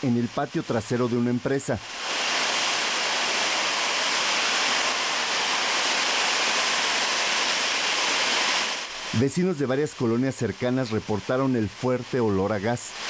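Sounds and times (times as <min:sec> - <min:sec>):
gas escaping with rushing hiss: 0:00.0 - 0:13.0.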